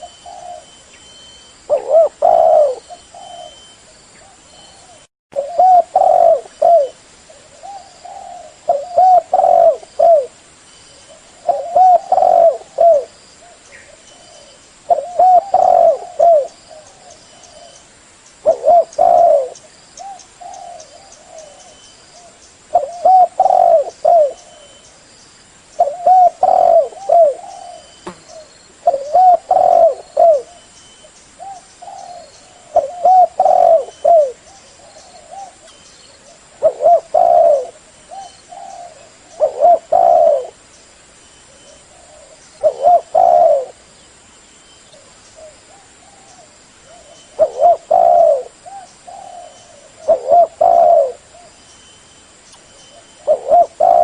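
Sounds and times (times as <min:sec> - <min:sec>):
dove cooing: 0:00.0 - 0:10.4, 0:11.0 - 0:17.8, 0:18.4 - 0:24.8, 0:25.8 - 0:30.7, 0:31.4 - 0:40.6, 0:41.5 - 0:43.8, 0:44.9 - 0:51.6, 0:52.9 - 0:54.0.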